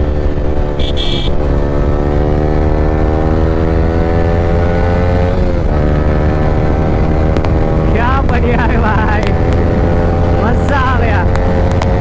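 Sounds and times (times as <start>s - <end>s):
motorcycle engine running under load: 0.0s - 12.0s.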